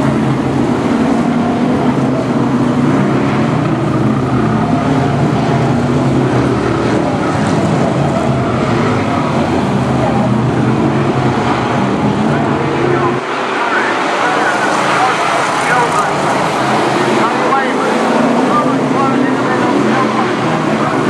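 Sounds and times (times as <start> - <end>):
racing car engines droning: 0.0 - 21.0.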